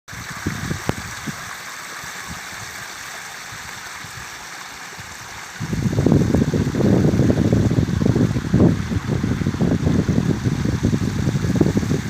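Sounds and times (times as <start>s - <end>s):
wind buffeting microphone: 0.1s - 2.8s, 5.0s - 12.0s
steady outdoor hiss: 0.1s - 12.0s.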